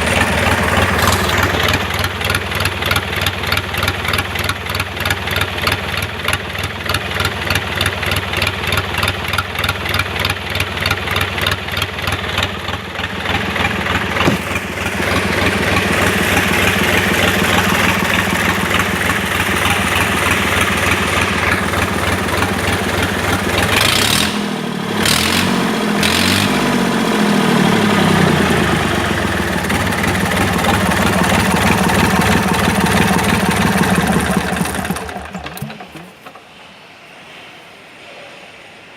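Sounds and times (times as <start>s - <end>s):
marine diesel engine running: 0.0s - 36.5s.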